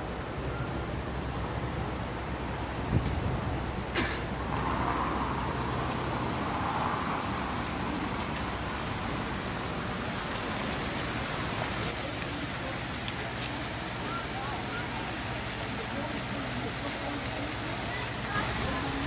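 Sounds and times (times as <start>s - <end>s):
distant city noise: 0.0s - 19.0s.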